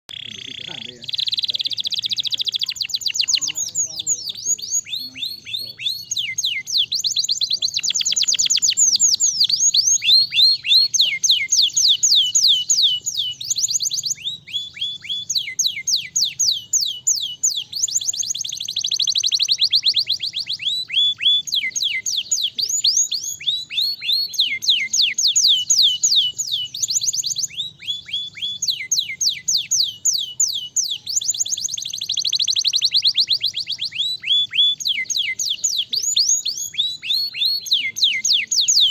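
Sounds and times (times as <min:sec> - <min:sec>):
canary singing: 0:00.1 - 0:38.9.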